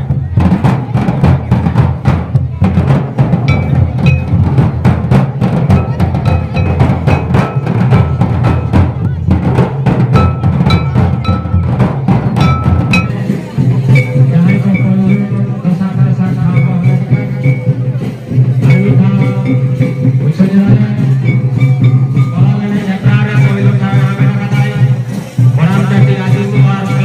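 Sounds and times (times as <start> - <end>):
barrel drums beaten fast: 0.0 - 27.0.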